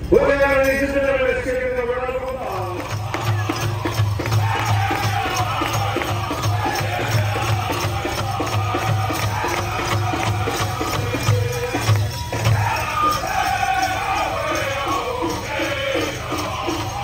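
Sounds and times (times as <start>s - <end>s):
high chanted voices: 0.0s - 17.0s
jingling rattle: 0.0s - 17.0s
big drum steady beat: 2.9s - 17.0s.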